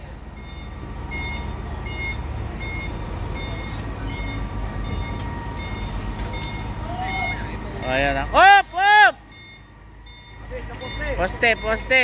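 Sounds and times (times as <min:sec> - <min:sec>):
truck engine running: 0:00.0 - 0:12.0
truck warning beeper: 0:00.0 - 0:12.0.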